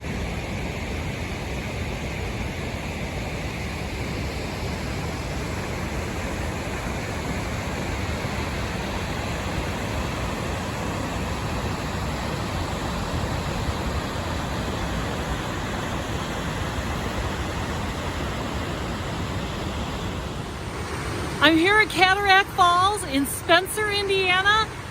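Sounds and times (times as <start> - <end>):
waterfall rushing: 0.1 - 24.9.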